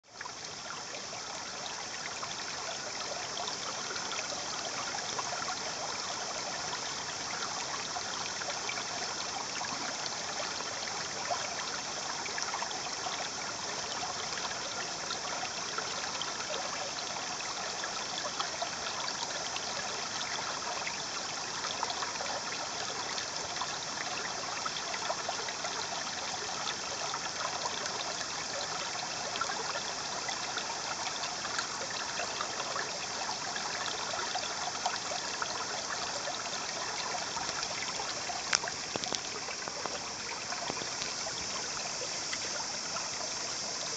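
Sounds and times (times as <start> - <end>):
shallow water trickling over sand: 0.0 - 43.9.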